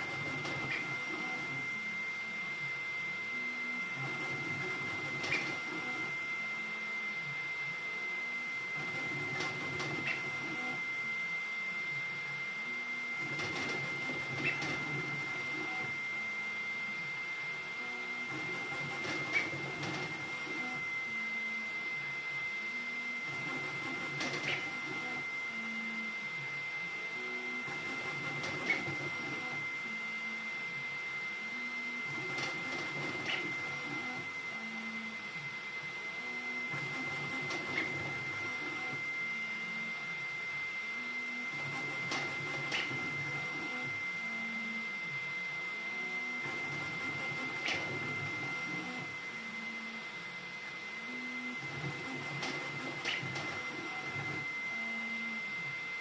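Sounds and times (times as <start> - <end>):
high printer whine: 0.0 - 56.0.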